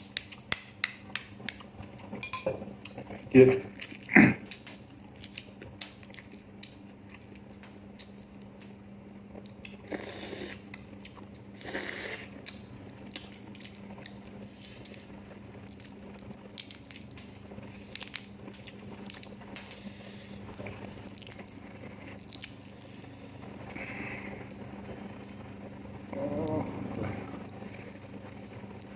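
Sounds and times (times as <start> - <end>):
person chewing food: 0.0 - 24.6
faint low hum: 0.0 - 28.9.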